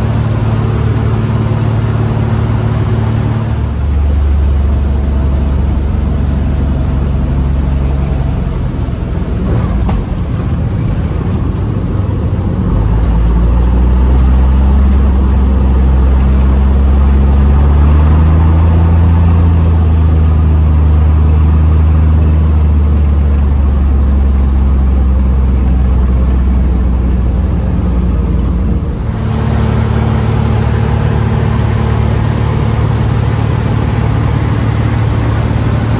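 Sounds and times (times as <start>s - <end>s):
light aircraft engine and propeller: 0.0s - 35.9s.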